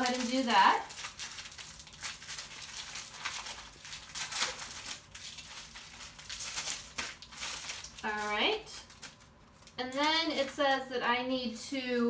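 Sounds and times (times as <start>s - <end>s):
plastic wrap crinkling: 0.0s - 10.9s.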